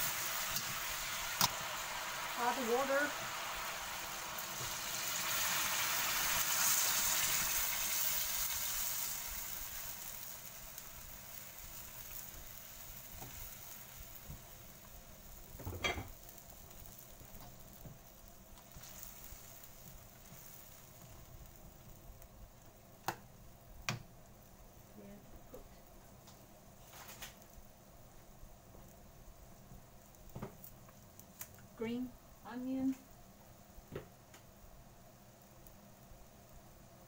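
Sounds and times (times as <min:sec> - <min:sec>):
water sizzling in hot wok: 0:00.0 - 0:37.0.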